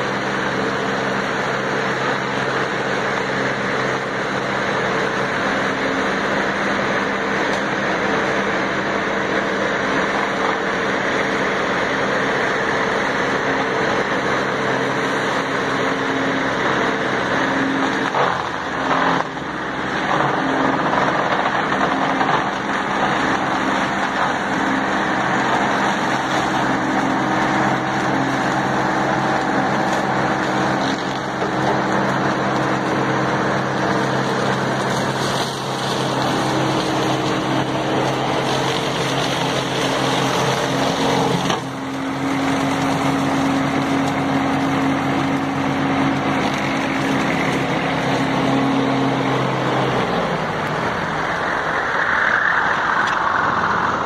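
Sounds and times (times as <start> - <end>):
mower cutter whirring: 0.0 - 54.0
tractor diesel engine running: 0.0 - 54.0.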